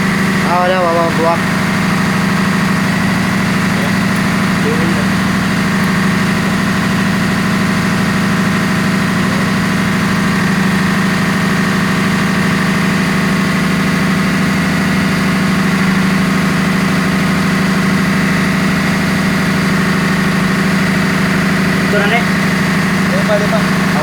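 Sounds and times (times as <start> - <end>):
engine room machinery drone: 0.0 - 24.0.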